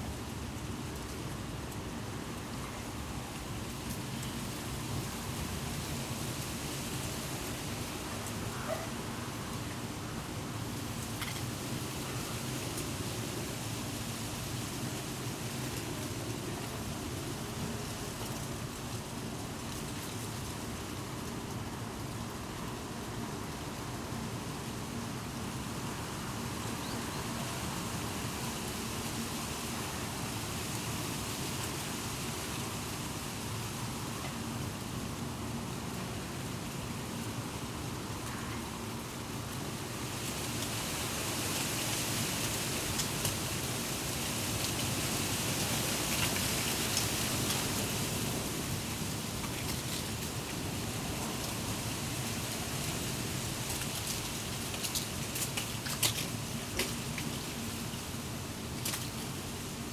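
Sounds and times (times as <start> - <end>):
falling leaves ticking: 0.0 - 59.9
wind rustling leaves: 0.0 - 59.9.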